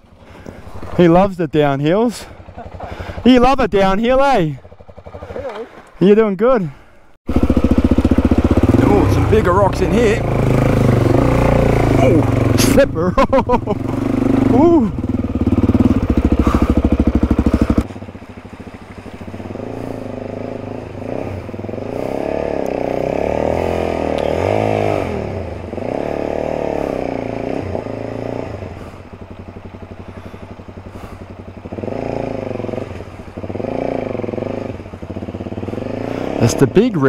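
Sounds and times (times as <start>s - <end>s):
motorcycle engine revving: 0.0s - 6.0s, 7.3s - 37.0s.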